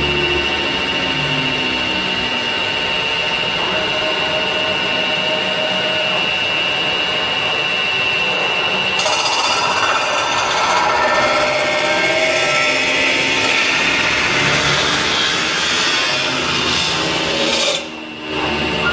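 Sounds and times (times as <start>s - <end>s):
metal spinning machine whine: 0.0s - 18.9s.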